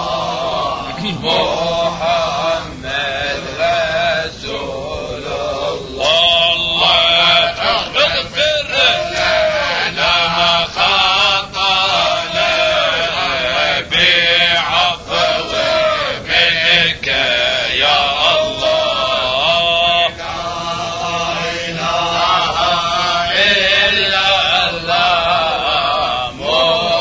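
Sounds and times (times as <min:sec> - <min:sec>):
men chanting: 0:00.0 - 0:27.0.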